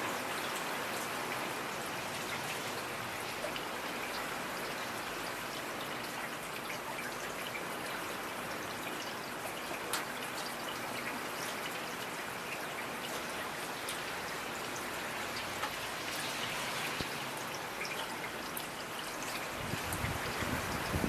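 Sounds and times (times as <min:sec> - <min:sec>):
rain pattering on hard surface: 0:00.0 - 0:21.0.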